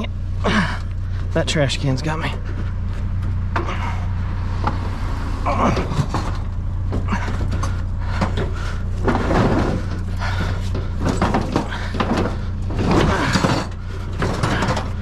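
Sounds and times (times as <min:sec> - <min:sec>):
metal clattering and scraping: 0:00.0 - 0:15.0
truck engine idling: 0:00.0 - 0:15.0.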